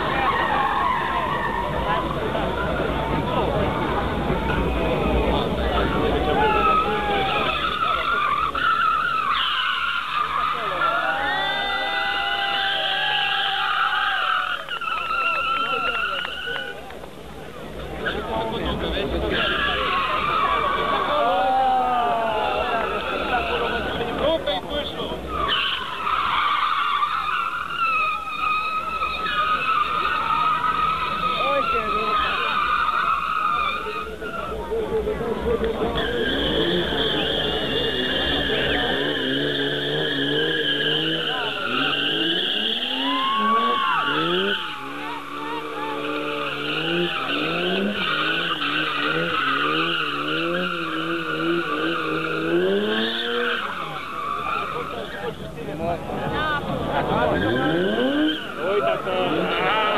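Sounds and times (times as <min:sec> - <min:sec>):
car tyres squealing: 0:00.0 - 0:59.9.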